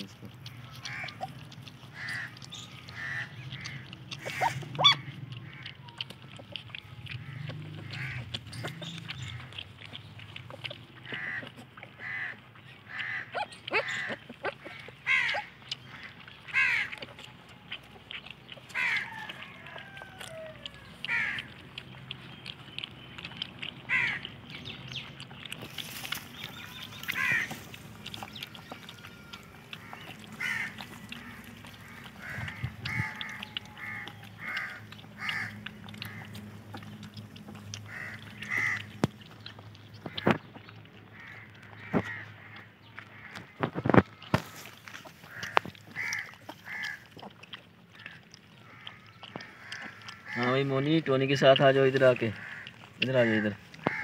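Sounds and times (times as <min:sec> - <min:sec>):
high animal calls: 0:00.0 - 0:09.6, 0:10.4 - 0:21.7, 0:25.6 - 0:39.4, 0:40.0 - 0:51.0, 0:51.6 - 0:54.0.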